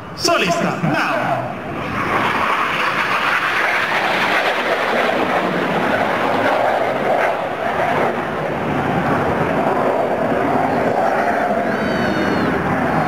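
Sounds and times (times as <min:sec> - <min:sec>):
jet flying past: 0:00.0 - 0:13.0.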